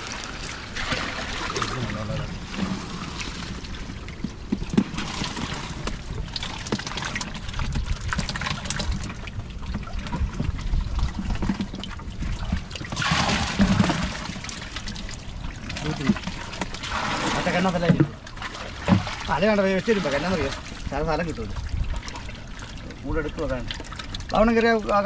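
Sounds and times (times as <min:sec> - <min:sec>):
rush of water: 0:00.0 - 0:25.0
water splashing and trickling: 0:00.0 - 0:25.0.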